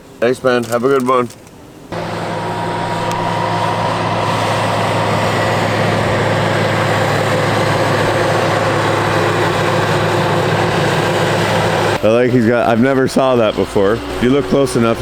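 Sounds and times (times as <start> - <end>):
heavy vehicle engine running: 1.9 - 15.0.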